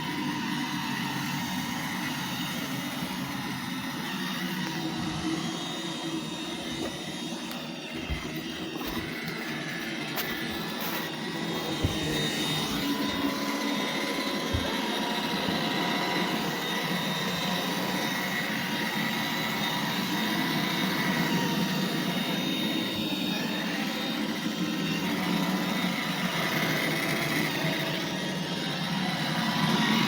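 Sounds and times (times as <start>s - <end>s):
robot vacuum whirring: 0.0s - 30.0s.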